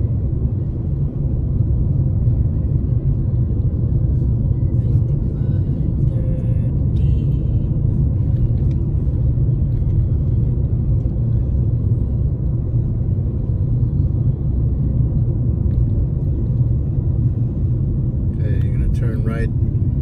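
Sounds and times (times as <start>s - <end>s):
car cabin road and engine noise: 0.0s - 20.0s.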